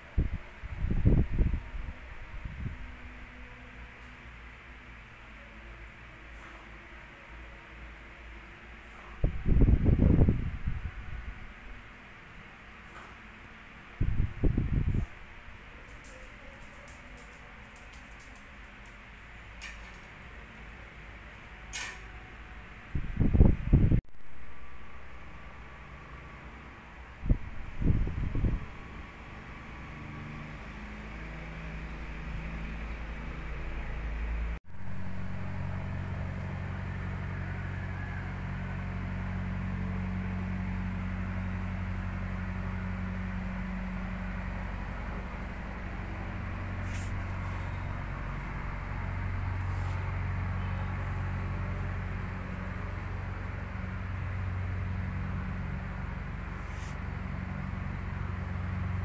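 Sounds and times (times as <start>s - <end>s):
background hum and hiss: 0.0s - 59.0s.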